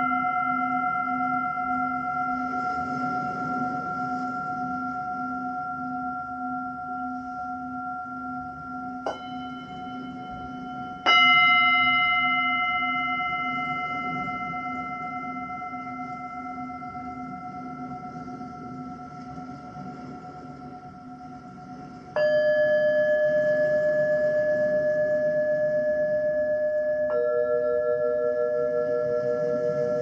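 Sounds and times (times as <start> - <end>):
singing bowl strike: 0.0 - 30.0
singing bowls ringing: 0.0 - 30.0.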